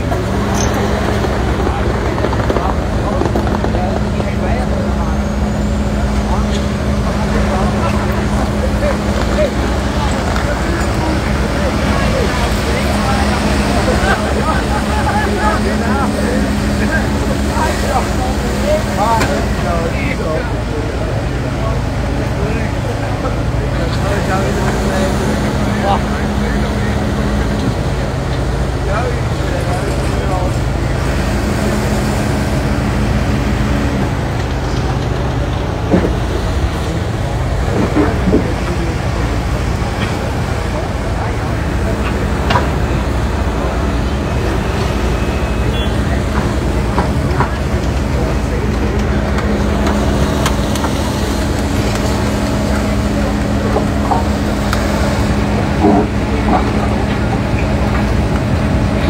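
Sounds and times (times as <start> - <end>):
excavator diesel engines running: 0.0 - 59.0.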